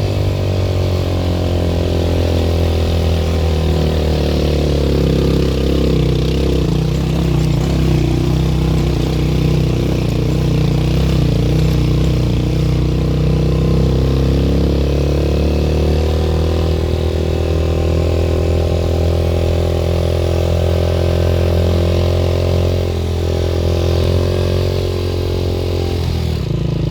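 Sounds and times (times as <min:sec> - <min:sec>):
vehicle engine running: 0:00.0 - 0:24.6.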